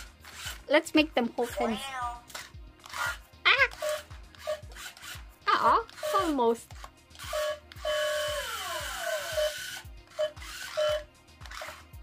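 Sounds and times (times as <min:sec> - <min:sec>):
toy robot motors whirring: 0:00.0 - 0:12.0
steady music beat: 0:01.6 - 0:12.0.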